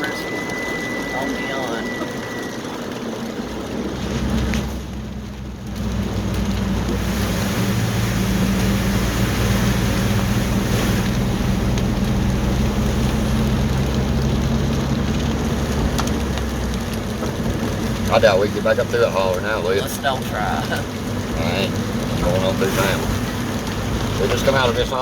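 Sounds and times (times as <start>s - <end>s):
engine and road hum: 0.0s - 25.0s
tyre spray and rain hiss: 0.0s - 25.0s.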